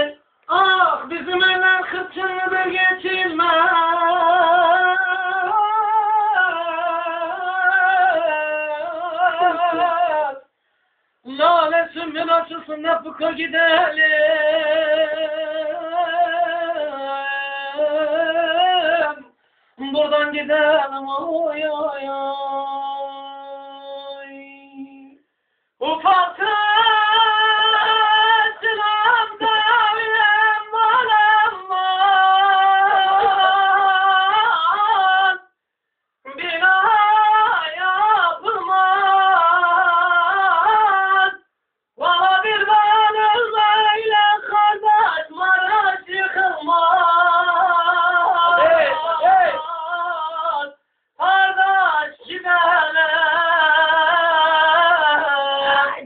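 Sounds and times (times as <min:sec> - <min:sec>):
person singing folk melody: 0:00.0 - 0:10.5, 0:11.2 - 0:35.6, 0:36.2 - 0:56.0.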